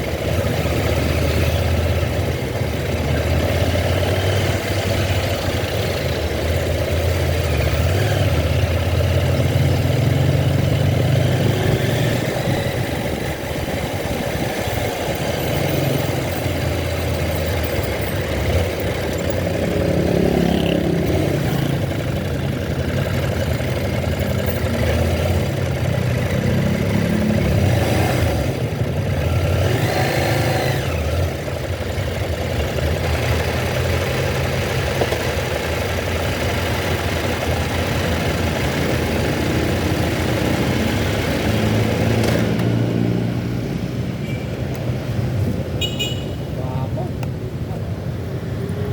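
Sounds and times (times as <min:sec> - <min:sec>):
road noise: 0:00.0 - 0:48.9
vehicle engine drone: 0:00.0 - 0:48.9.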